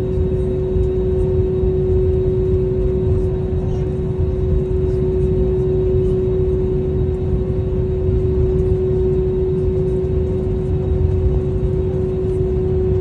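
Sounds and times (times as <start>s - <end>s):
airliner cabin rumble and hum: 0.0s - 13.0s.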